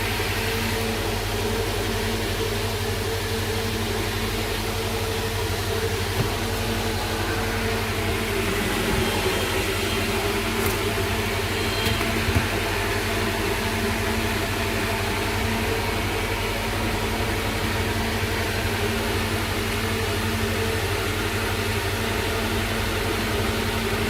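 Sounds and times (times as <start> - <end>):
machine hum with hiss: 0.0 - 24.0.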